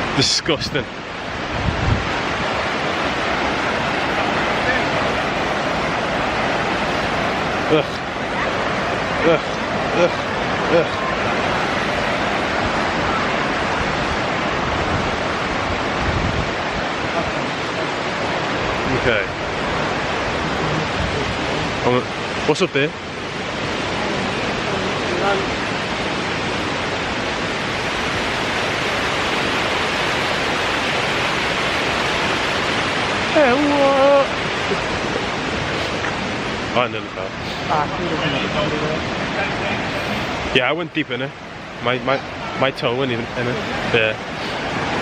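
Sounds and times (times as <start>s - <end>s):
waterfall and stream rushing: 0.0s - 45.0s.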